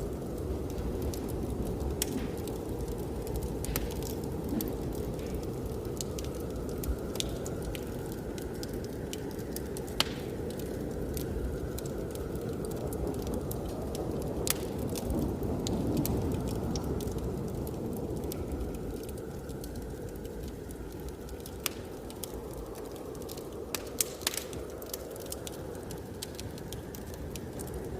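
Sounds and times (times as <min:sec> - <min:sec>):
low rushing blizzard wind: 0:00.0 - 0:27.9
wood fire crackling and popping: 0:00.0 - 0:27.9.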